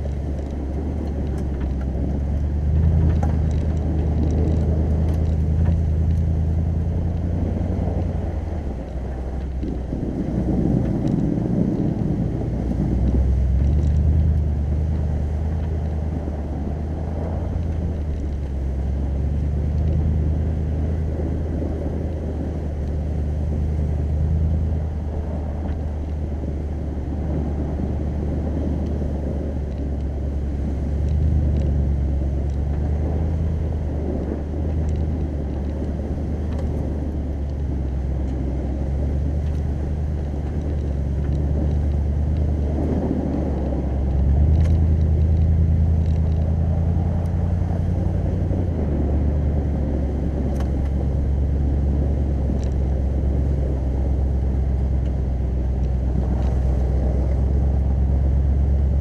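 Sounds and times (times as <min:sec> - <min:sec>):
car engine low hum: 0:00.0 - 0:59.0
rough rumble: 0:00.0 - 0:59.0
tyres rolling over snow: 0:00.0 - 0:59.0.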